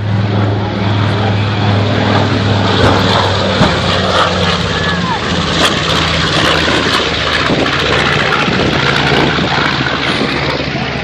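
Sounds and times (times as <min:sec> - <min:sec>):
propeller plane flying by: 0:00.0 - 0:11.0.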